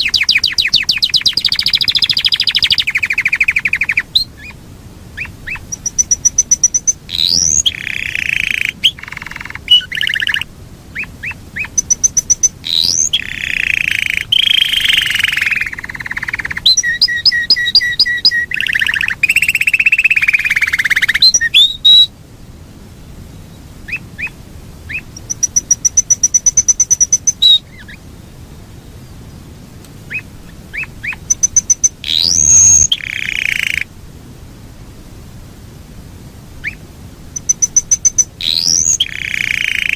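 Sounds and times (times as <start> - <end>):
canary singing trills: 0.0 - 22.1, 23.2 - 28.1, 28.7 - 33.9, 36.6 - 39.9.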